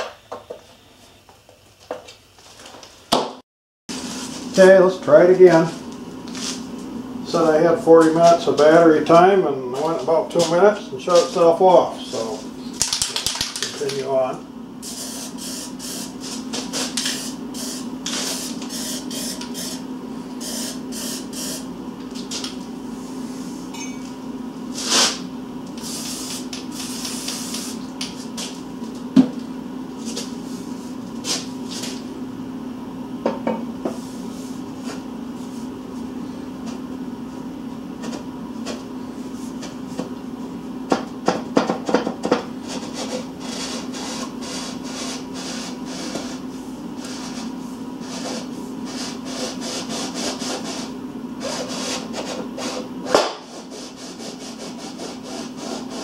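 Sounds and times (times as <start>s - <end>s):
steady hum: 3.9s - 56.0s.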